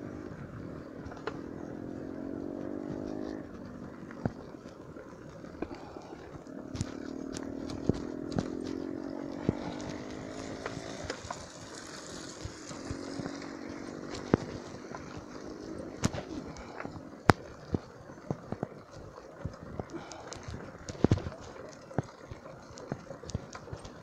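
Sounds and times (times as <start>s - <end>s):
droning hum: 0.0s - 24.0s
bicycle frame rattling: 0.1s - 24.0s.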